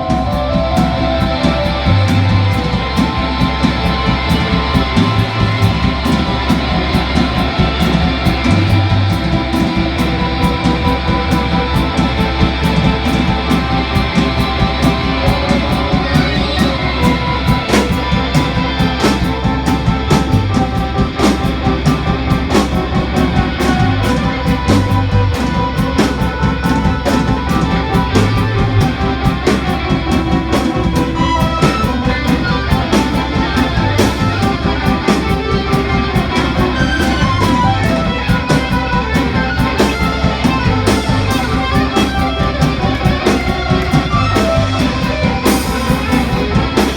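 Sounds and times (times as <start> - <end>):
drum beat: 0.0 - 46.9
electric guitar: 0.0 - 46.9.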